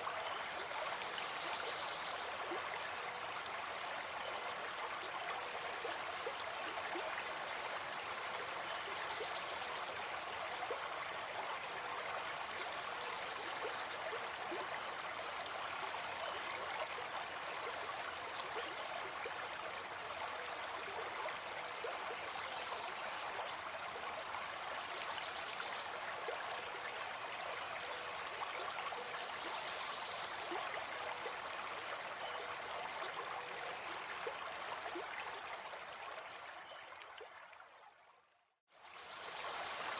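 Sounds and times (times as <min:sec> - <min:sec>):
stream flowing: 0:00.0 - 0:38.1, 0:38.8 - 0:39.9.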